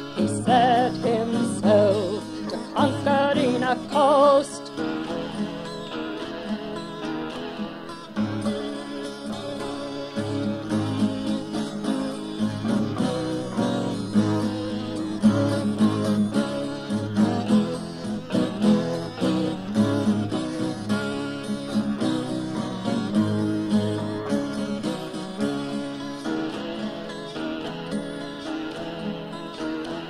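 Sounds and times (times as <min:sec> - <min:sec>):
acoustic guitar playing: 0:00.0 - 0:30.0.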